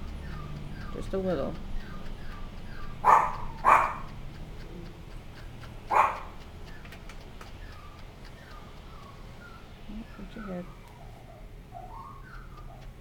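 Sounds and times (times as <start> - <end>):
faint light brush ticks: 0.0 - 11.2.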